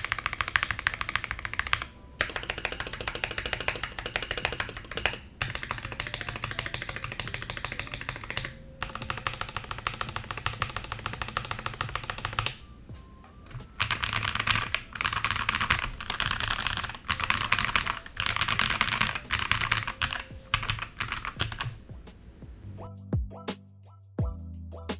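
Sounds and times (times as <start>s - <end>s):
fast typing on mechanical keyboard: 0.0s - 12.7s, 13.5s - 22.1s.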